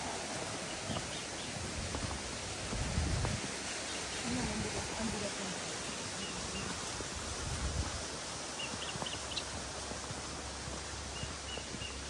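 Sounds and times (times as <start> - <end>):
footsteps on paved path: 0.0 - 12.0
steady hiss: 0.0 - 12.0.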